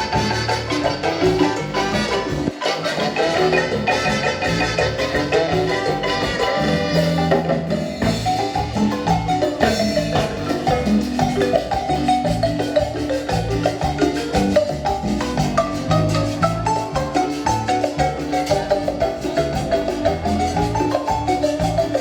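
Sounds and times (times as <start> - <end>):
marimba ensemble playing: 0.0 - 22.0.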